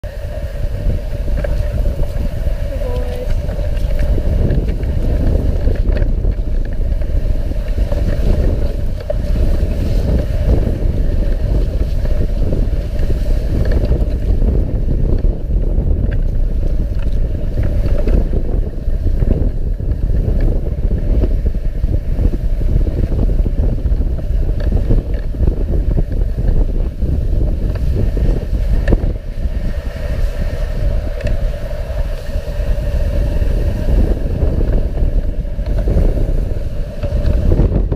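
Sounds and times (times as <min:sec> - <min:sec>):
sled runners scraping over snow: 0:00.0 - 0:37.9
wind rushing on microphone: 0:00.0 - 0:37.9.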